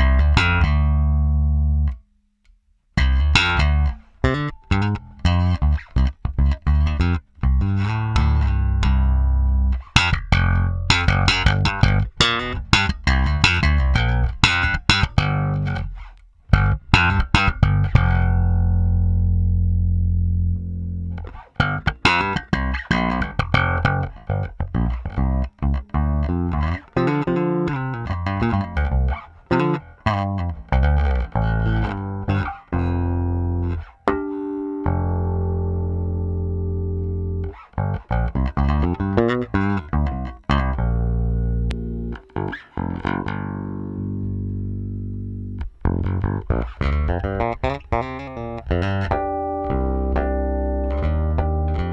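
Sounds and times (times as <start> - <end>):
electric bass playing notes: 0.0 - 2.0, 3.0 - 51.9.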